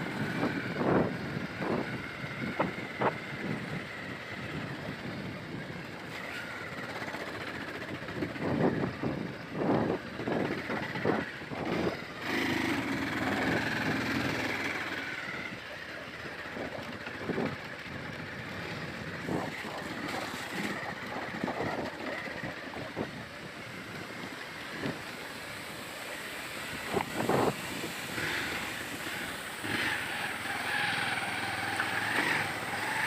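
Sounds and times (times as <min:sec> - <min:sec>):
motorbike engine: 0:00.0 - 0:33.0
rumble of road noise: 0:00.0 - 0:33.0.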